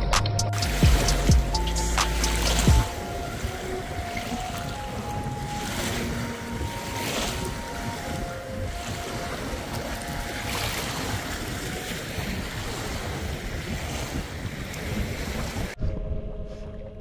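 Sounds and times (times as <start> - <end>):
wind on microphone: 0.5 - 17.0
water lapping around boat: 0.6 - 15.8.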